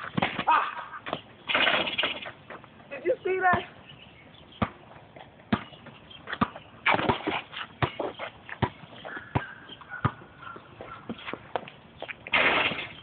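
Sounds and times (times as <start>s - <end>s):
basketball bouncing on asphalt: 0.0s - 2.8s, 3.4s - 3.8s, 4.5s - 13.0s.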